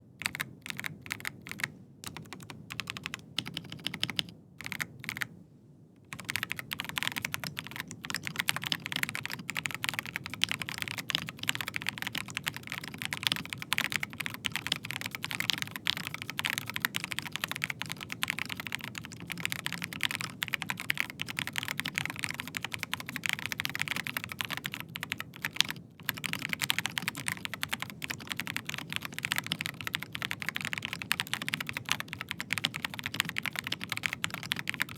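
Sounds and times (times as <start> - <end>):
mechanical keyboard typing: 0.2 - 5.3, 6.1 - 34.9.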